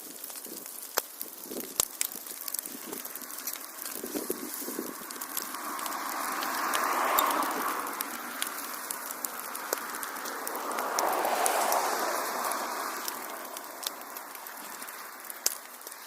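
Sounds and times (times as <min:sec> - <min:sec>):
flames rushing: 0:00.0 - 0:16.0
wood fire crackling: 0:00.0 - 0:16.0.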